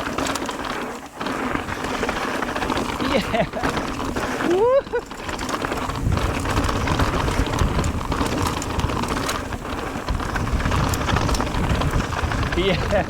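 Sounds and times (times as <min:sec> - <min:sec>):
bike clicks and rattles: 0:00.0 - 0:13.0
tyres rolling on dirt and rock: 0:00.0 - 0:13.0
wind noise on microphone: 0:01.2 - 0:13.0.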